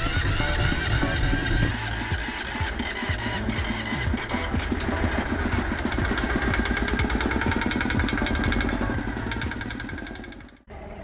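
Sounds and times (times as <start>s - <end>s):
boat engine starting and running: 0.0s - 11.0s.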